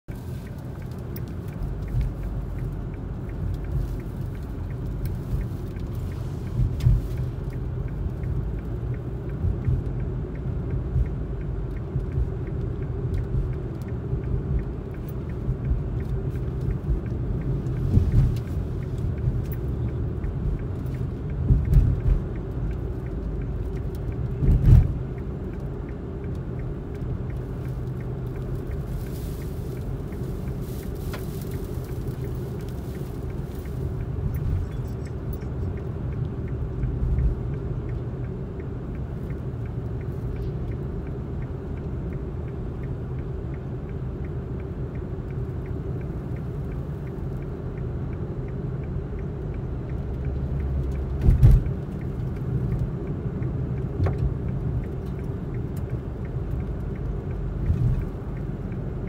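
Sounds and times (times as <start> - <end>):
car cabin rumble: 0.1 - 59.0.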